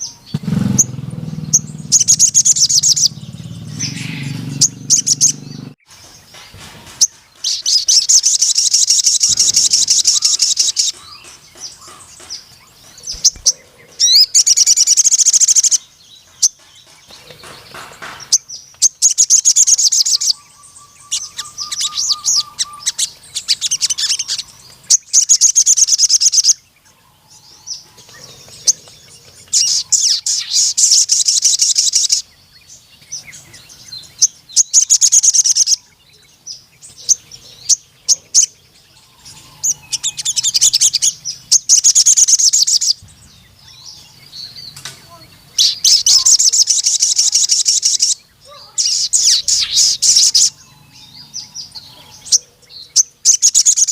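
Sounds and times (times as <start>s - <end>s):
bird chips and twitters: 0.0s - 26.7s, 27.5s - 53.9s
bird singing rapid trills: 0.0s - 53.9s.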